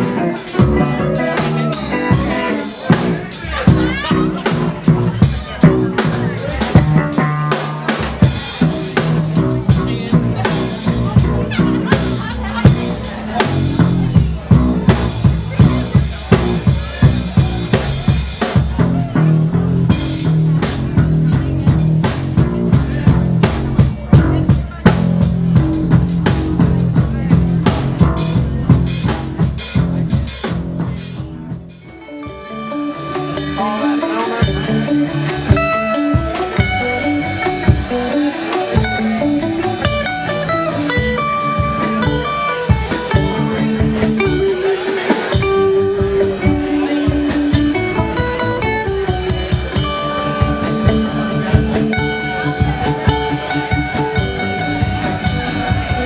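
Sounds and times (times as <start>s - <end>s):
live rock band playing: 0.0s - 56.0s
picked guitar notes: 0.0s - 56.0s.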